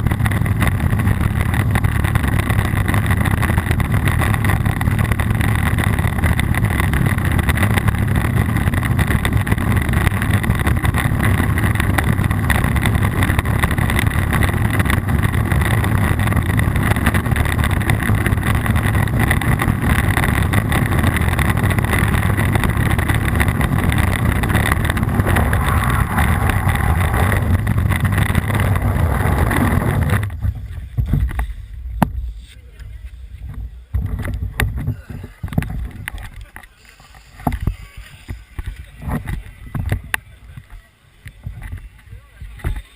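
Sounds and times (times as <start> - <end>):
wind rumble: 0.0 - 36.5
bike trail noise: 0.0 - 42.9.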